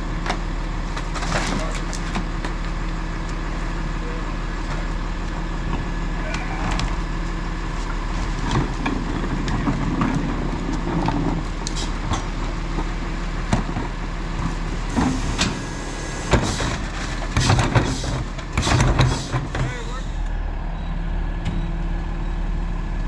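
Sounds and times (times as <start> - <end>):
garbage truck running: 0.0 - 23.0.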